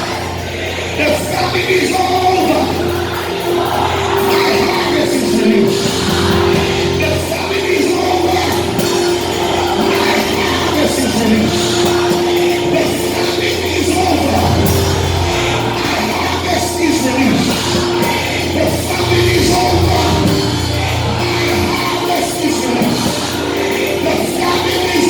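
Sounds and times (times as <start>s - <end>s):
held chords over bass note: 0.0s - 25.0s
voices singing: 0.0s - 25.0s.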